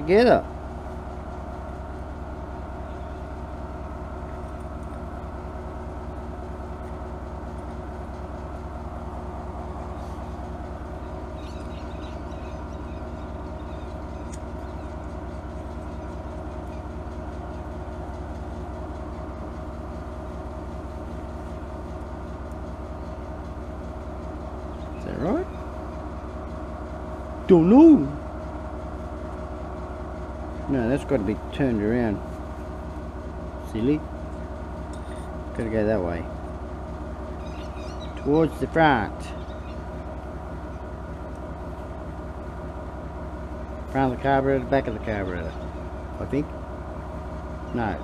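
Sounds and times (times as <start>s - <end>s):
air compressors running: 0.0s - 48.0s.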